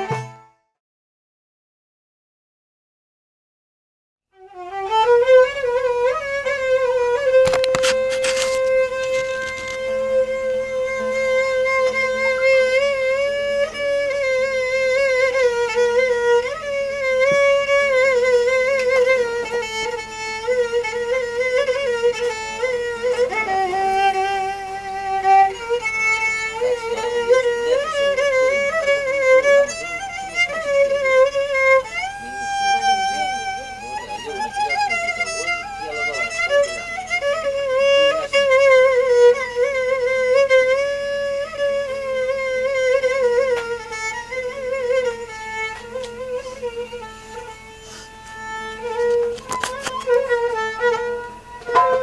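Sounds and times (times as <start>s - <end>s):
violin folk melody: 0.0s - 0.7s, 4.3s - 52.0s.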